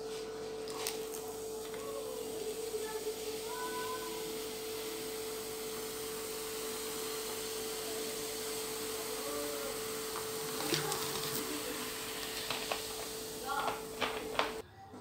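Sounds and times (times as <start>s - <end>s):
cola fizzing hiss: 0.6s - 14.6s
cola pouring into jug: 0.6s - 14.6s.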